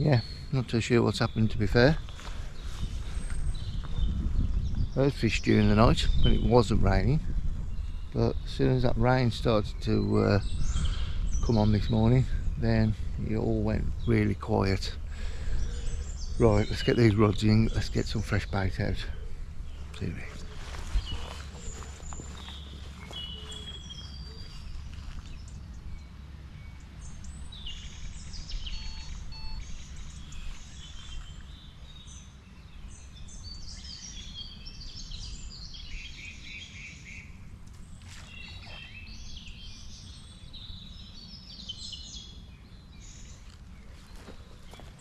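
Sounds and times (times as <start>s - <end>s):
steady low rumble: 0.0s - 36.5s
birds chirping and singing: 0.0s - 45.0s.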